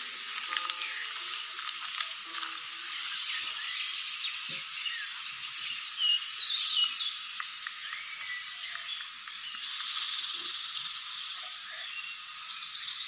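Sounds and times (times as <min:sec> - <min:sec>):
birds chirping: 0:00.0 - 0:13.0
steady hiss: 0:00.0 - 0:13.0.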